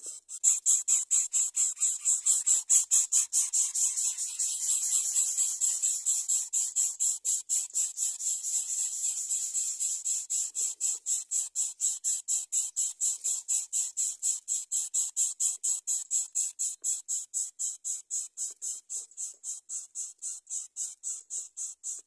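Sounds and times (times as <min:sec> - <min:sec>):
insect chirping: 0:00.4 - 0:22.0.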